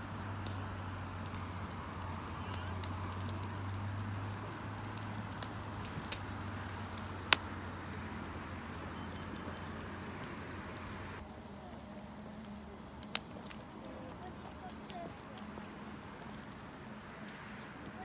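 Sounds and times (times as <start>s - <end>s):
campfire hissing and crackling: 0.0s - 18.0s.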